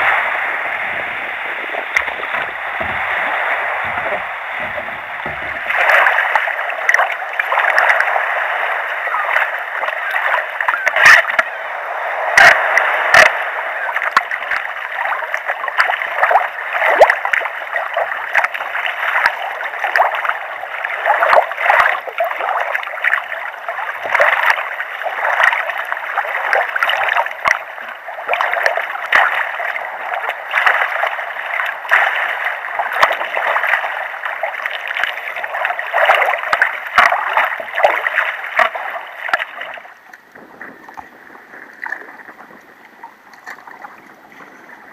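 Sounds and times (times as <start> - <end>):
paddle strokes splashing: 0.0 - 44.9
water rushing along hull: 0.0 - 44.9.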